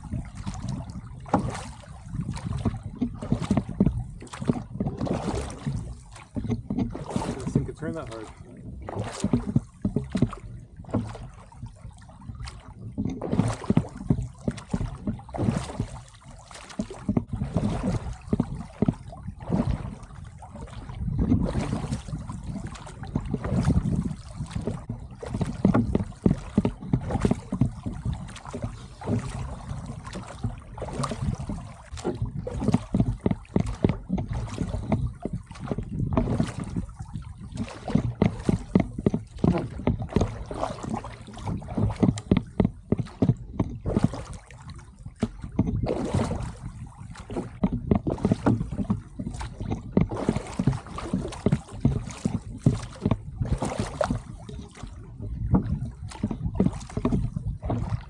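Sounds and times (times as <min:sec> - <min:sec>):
oar blades splashing: 0:00.0 - 0:58.0
oars knocking in oarlocks: 0:00.0 - 0:58.0.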